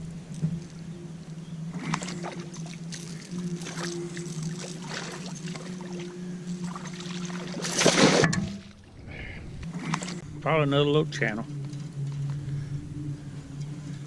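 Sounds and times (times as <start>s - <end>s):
boat motor hum: 0.0s - 14.0s
water noises: 0.0s - 14.0s.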